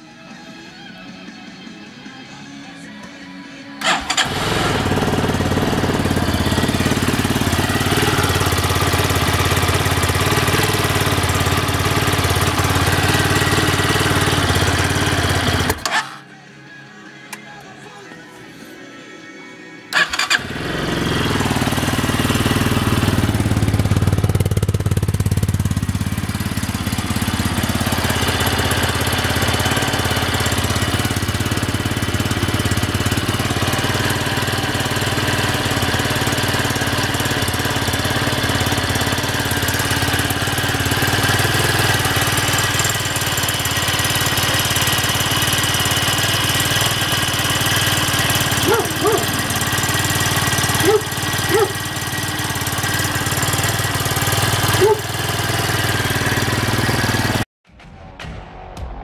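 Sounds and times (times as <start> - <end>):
engine starting and idling: 3.8 - 16.3, 19.9 - 57.4.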